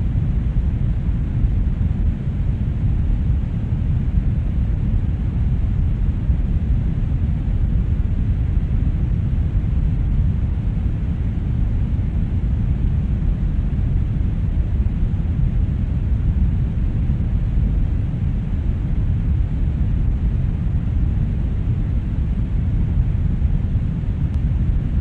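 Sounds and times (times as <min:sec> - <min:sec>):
brown noise: 0:00.0 - 0:25.0.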